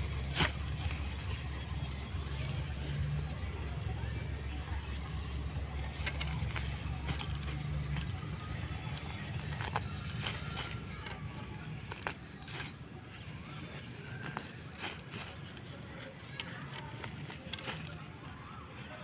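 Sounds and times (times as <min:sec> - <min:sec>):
stems and roots tearing: 0:00.0 - 0:03.2, 0:04.9 - 0:19.0
bangles clinking: 0:00.0 - 0:19.0
leafy plants rustling: 0:00.0 - 0:19.0.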